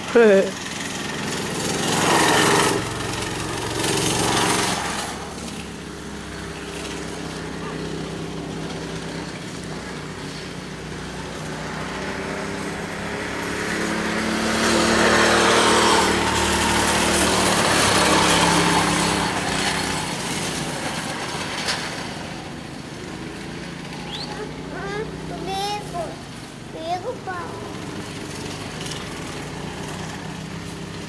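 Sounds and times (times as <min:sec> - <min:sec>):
go-kart engines running: 0:00.0 - 0:31.0
go-kart passing close by: 0:00.0 - 0:31.0.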